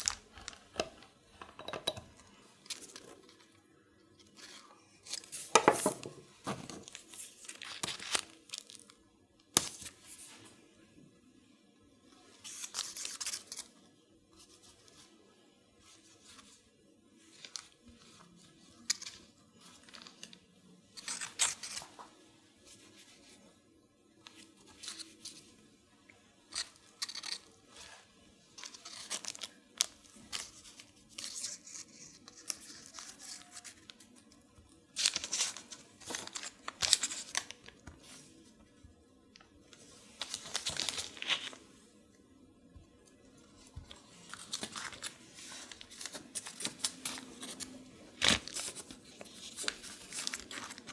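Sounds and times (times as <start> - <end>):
parchment paper crinkling: 0.0 - 1.4, 2.2 - 10.4, 12.2 - 15.2, 15.8 - 23.5, 24.2 - 25.6, 26.2 - 38.6, 39.3 - 41.8, 43.0 - 50.9.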